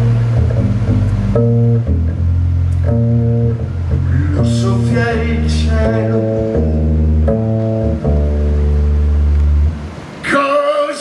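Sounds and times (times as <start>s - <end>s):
double bass low line: 0.0s - 10.1s.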